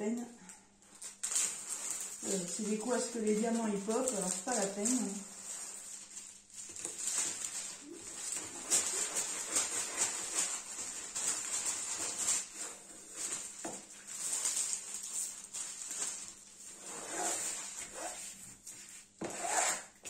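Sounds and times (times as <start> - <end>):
canvas sheet rustling and crinkling: 0.9 - 19.7.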